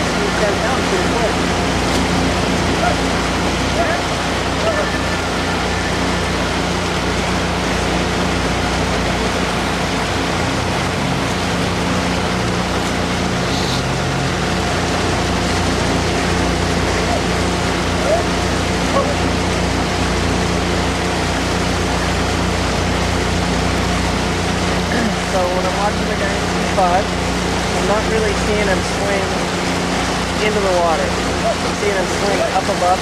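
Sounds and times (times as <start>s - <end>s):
motorboat engine running: 0.0s - 33.0s
rush of wind and water: 0.0s - 33.0s.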